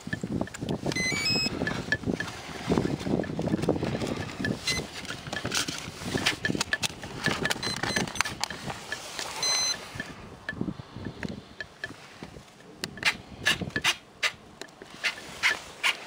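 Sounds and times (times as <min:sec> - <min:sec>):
wind buffeting microphone: 0:00.0 - 0:09.0, 0:09.8 - 0:14.6
small irregular clicks: 0:00.0 - 0:16.0.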